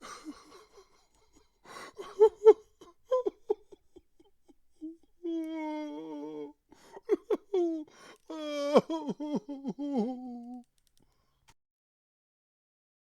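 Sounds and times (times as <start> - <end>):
person crying and wailing: 0.0 - 10.6.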